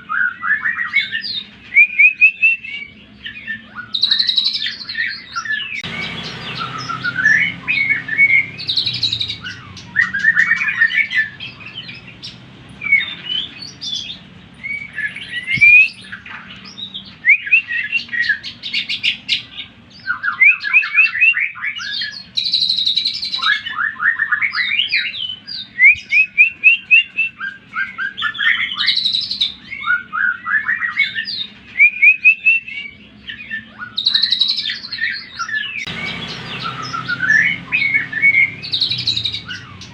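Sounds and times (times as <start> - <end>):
bird singing rapid trills: 0.2 - 39.9.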